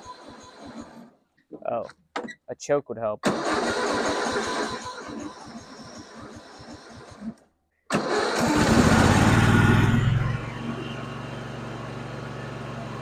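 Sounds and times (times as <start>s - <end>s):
mower engine starting and idling: 0.0s - 1.2s, 3.2s - 13.0s.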